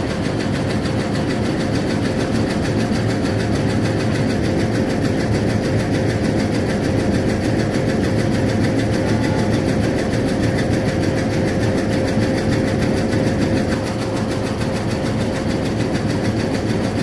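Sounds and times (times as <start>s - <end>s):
constant hum: 0.0s - 17.0s
locomotive engine idling: 0.0s - 17.0s.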